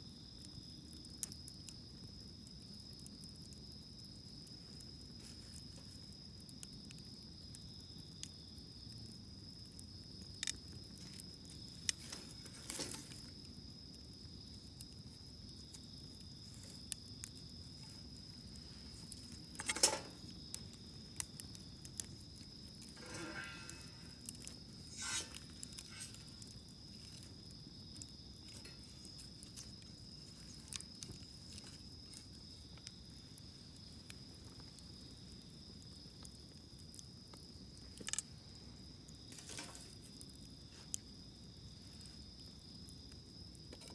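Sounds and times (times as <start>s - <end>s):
insect trill: 0.0s - 43.9s
wood fire crackling: 0.0s - 43.9s.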